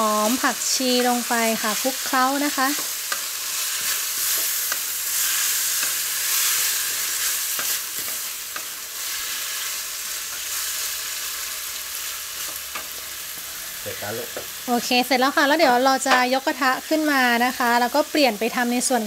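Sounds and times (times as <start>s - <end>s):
stir-fry sizzling in a pan: 0.0s - 19.0s.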